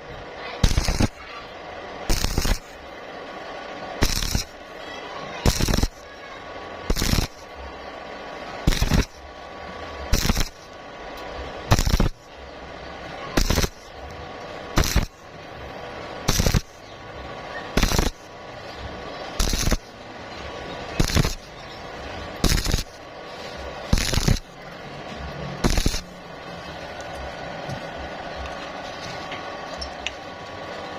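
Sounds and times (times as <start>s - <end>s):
welding arc crackle: 0.1s - 27.4s
welding sputtering burst: 0.2s - 26.5s.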